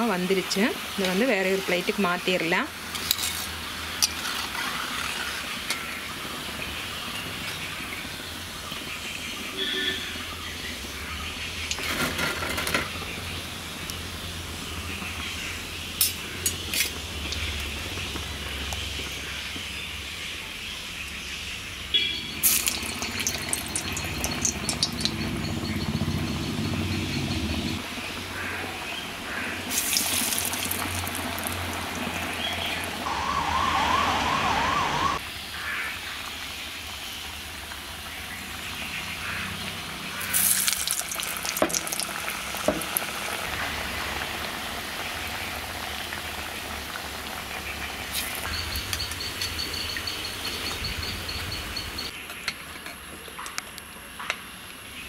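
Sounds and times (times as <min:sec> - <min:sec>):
hot oil sizzling: 0:00.0 - 0:20.2, 0:21.9 - 0:51.4.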